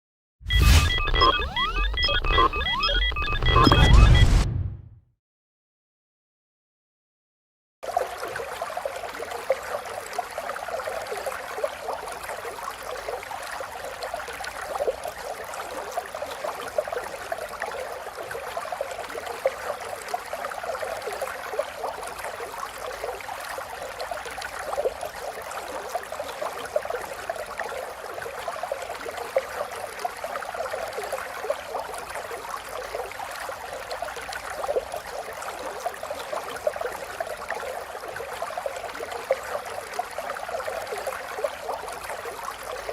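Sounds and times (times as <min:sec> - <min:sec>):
water flowing with splashes: 0:07.8 - 0:42.9.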